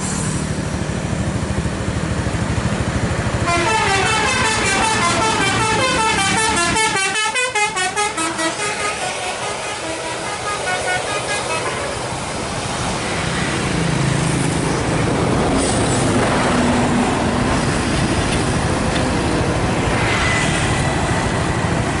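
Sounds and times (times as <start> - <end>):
tyre and road hiss: 0.0 - 2.0, 3.4 - 22.0
engine rumble: 0.0 - 7.1, 11.1 - 22.0.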